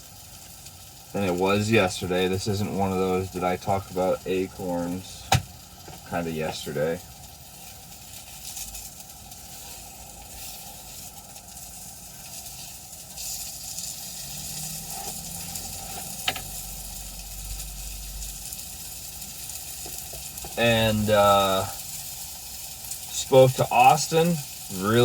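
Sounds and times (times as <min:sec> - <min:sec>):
steady sizzling hiss: 0:00.0 - 0:25.0.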